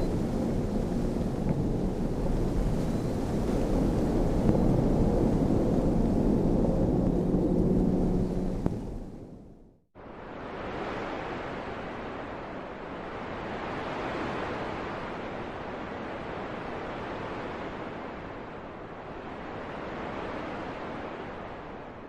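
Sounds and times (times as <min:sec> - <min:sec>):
wind blowing in gusts: 0:00.0 - 0:22.0.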